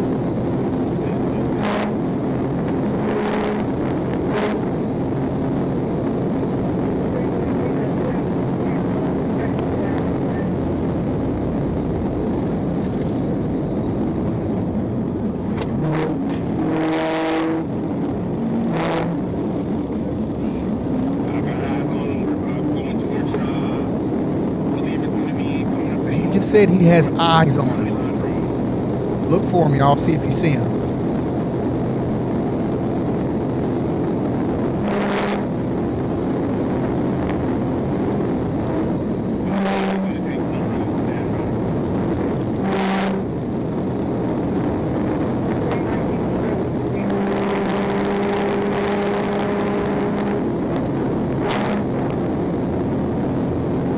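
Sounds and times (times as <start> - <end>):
car engine and road noise: 0.0 - 53.9.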